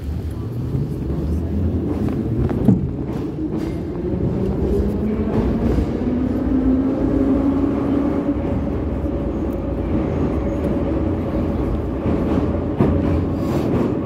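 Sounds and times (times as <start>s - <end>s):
train running gear rumble: 0.0s - 14.0s.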